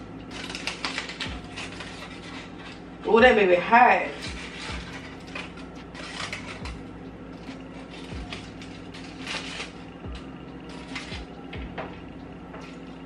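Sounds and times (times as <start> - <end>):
kitchen utensils clicking and scraping: 0.0 - 13.0
steady low hum: 0.0 - 13.0.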